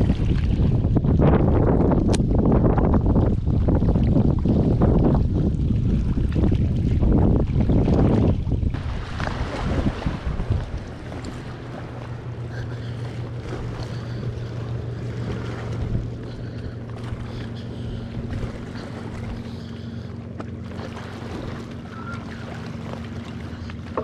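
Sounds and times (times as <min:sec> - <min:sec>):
boat motor humming: 0:00.0 - 0:24.0.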